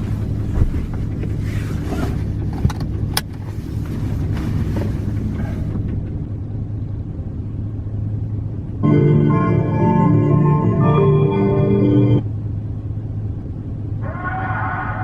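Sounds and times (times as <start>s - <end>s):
vehicle engine rumble and road noise: 0.0s - 15.0s.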